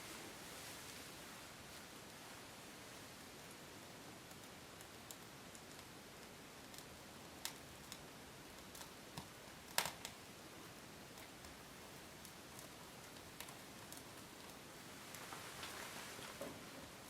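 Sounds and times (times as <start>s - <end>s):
faint hiss: 0.0s - 17.0s
fire crackling and popping: 1.8s - 17.0s.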